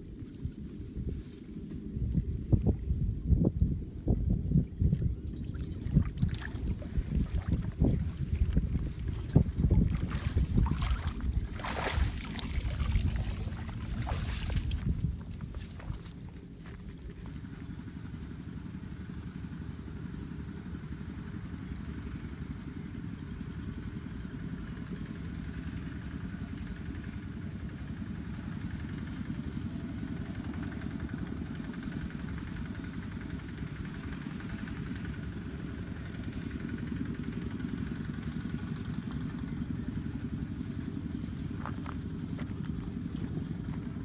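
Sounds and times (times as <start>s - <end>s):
small engine droning: 0.0s - 44.0s.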